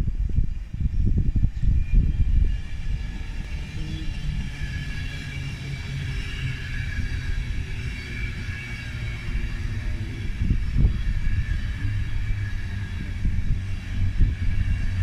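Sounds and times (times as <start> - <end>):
train wheels rumbling: 0.7 - 15.0.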